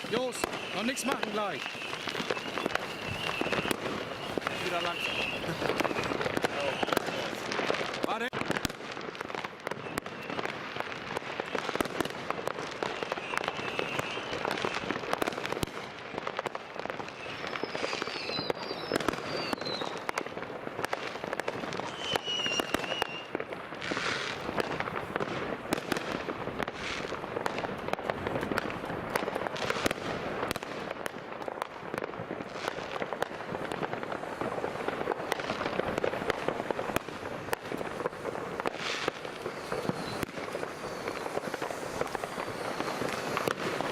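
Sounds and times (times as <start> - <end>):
fireworks and firecrackers crackling: 0.0 - 43.9
whistling fireworks: 0.0 - 43.9.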